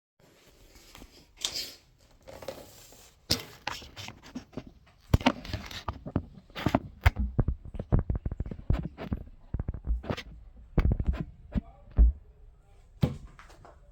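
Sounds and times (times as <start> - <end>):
rustling and scraping: 0.2 - 12.1.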